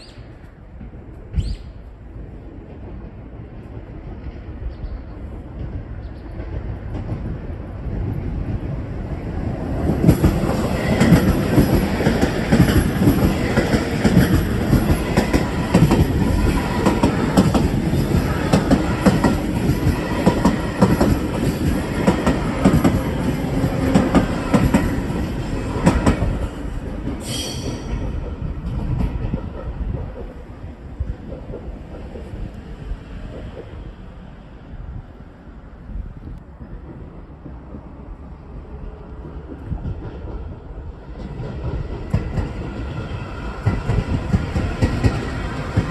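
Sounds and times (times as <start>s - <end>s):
train passing at speed: 0.0s - 45.9s.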